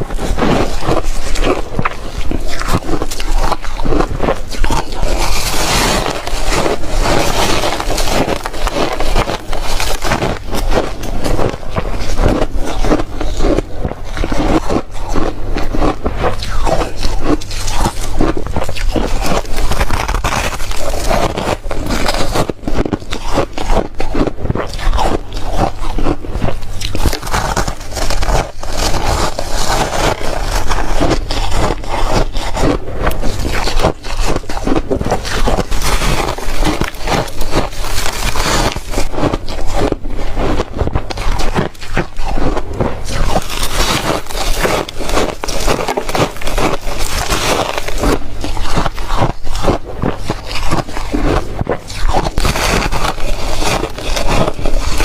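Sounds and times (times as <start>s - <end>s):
chewing ice crunching: 0.0s - 55.0s
steady low hum: 0.0s - 55.0s.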